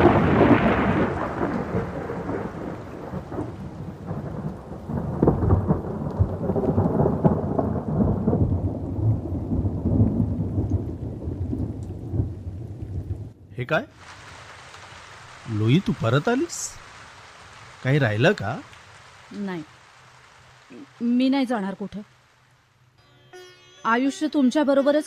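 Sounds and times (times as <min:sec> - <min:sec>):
thunder rumbling: 0:00.0 - 0:23.0
heavy rain: 0:00.0 - 0:25.0.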